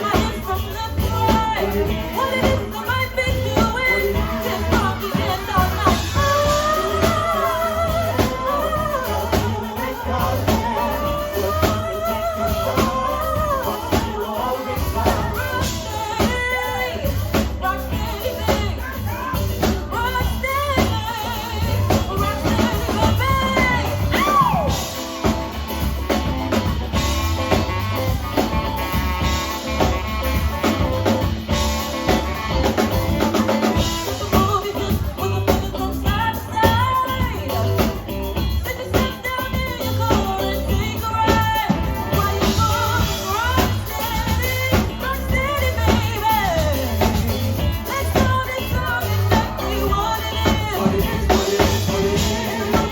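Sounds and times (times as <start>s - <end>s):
bass guitar: 0.0s - 52.9s
drum kit: 0.0s - 52.9s
live rock band playing: 0.0s - 52.9s
person singing: 0.0s - 52.9s.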